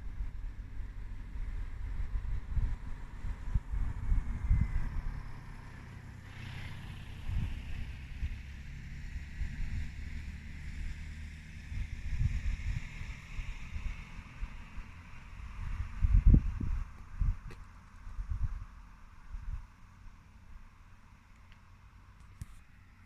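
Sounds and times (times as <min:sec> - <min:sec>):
wind buffeting microphone: 0:00.0 - 0:19.7.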